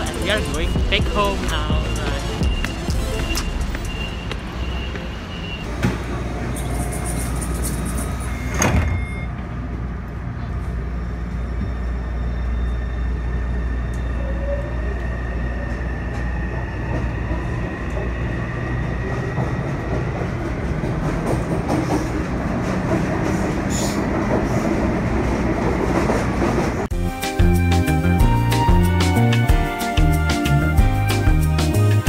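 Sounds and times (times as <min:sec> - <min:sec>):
train rumble: 0:00.0 - 0:26.9.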